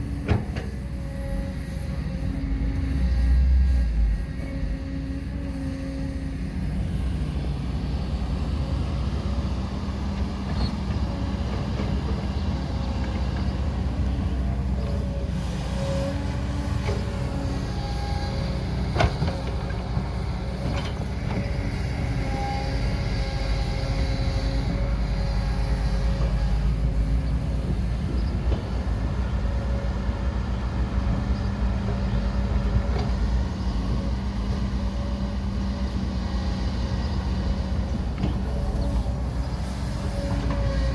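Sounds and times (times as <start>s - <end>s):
excavator motor humming: 0.0s - 40.9s.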